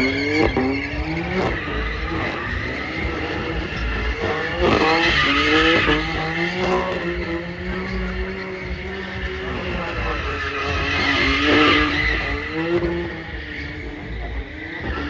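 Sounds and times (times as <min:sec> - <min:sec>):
car engine revving: 0:00.0 - 0:15.0
tyres squealing and skidding: 0:00.0 - 0:15.0.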